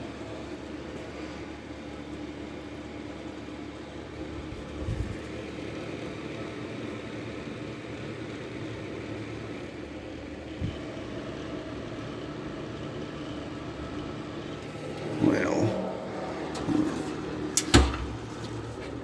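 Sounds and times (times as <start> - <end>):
electric heater humming: 0.0 - 19.0.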